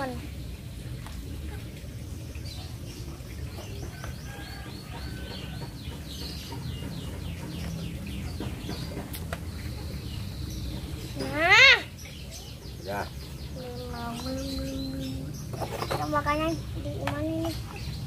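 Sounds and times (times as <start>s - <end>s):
low outdoor background: 0.0s - 18.0s
bird chirping: 2.5s - 18.0s.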